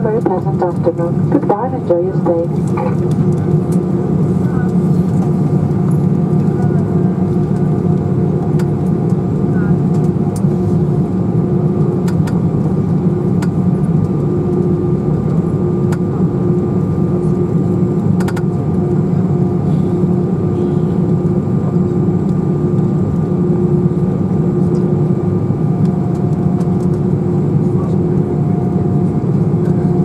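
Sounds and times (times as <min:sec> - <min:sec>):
aircraft engines humming: 0:00.0 - 0:30.0.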